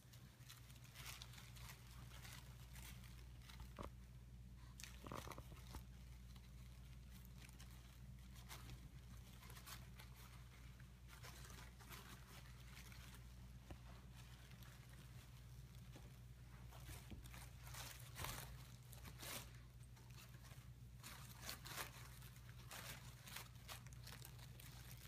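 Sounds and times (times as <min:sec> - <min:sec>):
tissue paper rustling: 0:00.0 - 0:25.0.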